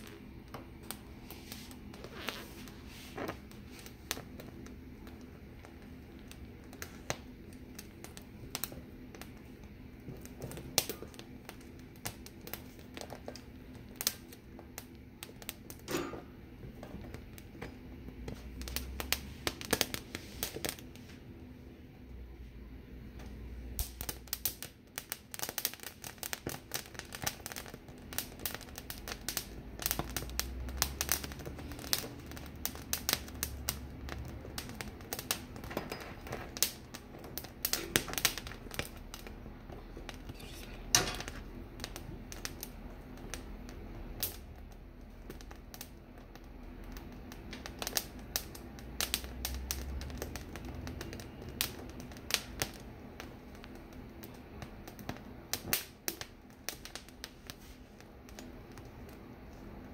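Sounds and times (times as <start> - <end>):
pepper skins crackling over flame: 0.0 - 22.3, 23.0 - 59.9
gas burner flame: 0.0 - 59.9.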